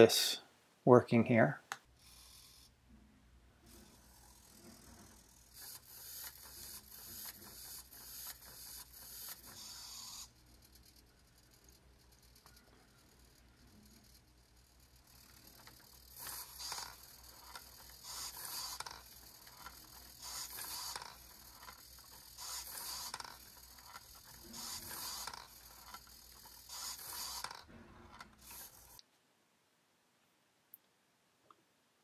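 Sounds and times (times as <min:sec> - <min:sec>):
micro servos buzzing: 0:02.0 - 0:02.8, 0:03.7 - 0:29.0.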